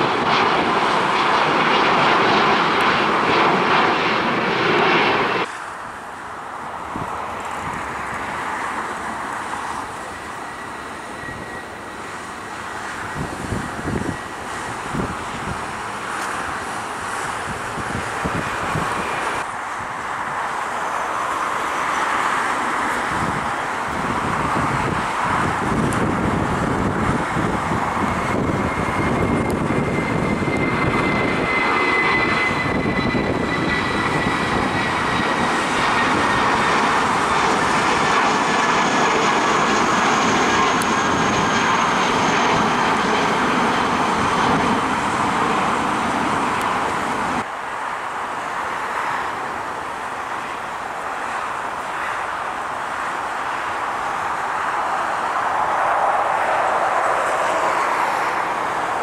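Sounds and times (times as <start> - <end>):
airliner jet noise on approach: 0.0 - 59.0
jet engines rumbling and whining: 0.0 - 59.0.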